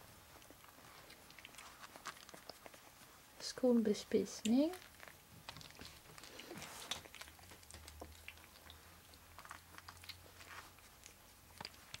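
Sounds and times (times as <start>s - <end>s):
puppies suckling: 0.0s - 3.4s, 4.5s - 12.0s.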